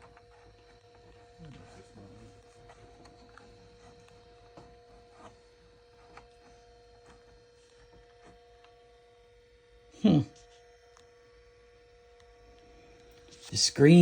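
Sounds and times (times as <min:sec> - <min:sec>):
hard drive spinning hum: 0:00.0 - 0:14.0.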